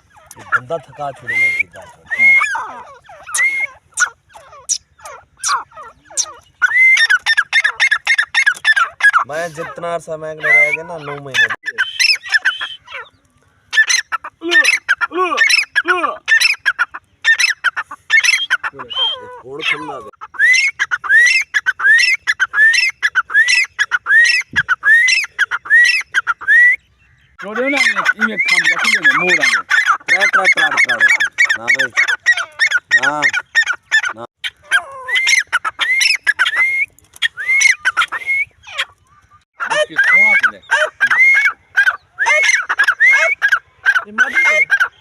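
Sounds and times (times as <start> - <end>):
francolin whistled calls: 0.0 - 9.3, 10.4 - 34.0, 34.7 - 45.0.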